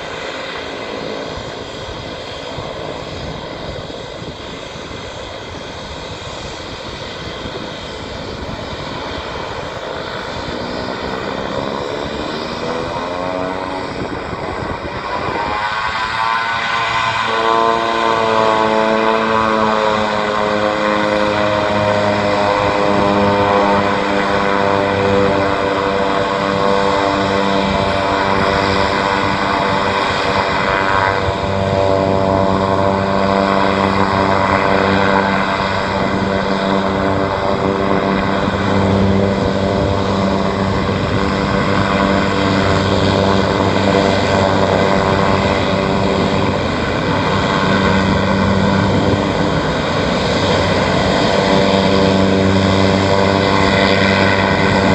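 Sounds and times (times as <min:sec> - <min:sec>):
turboprop engines running up: 0:00.0 - 0:54.9.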